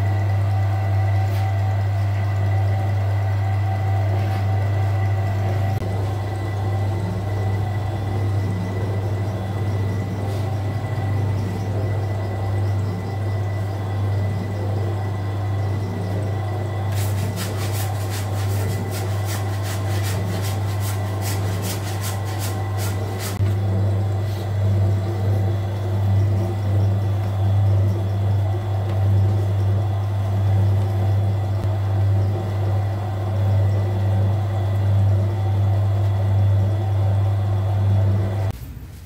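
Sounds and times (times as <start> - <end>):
dough mixer motor humming: 0.0 - 38.6.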